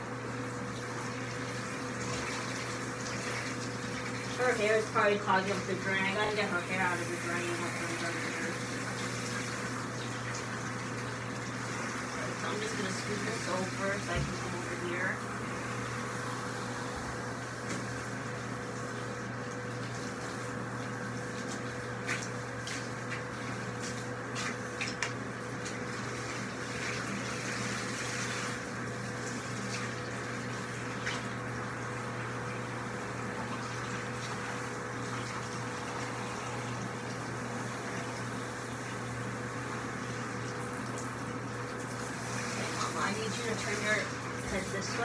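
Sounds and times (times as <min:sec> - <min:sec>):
steady hum: 0:00.0 - 0:45.0
water running into bathtub: 0:00.0 - 0:45.0.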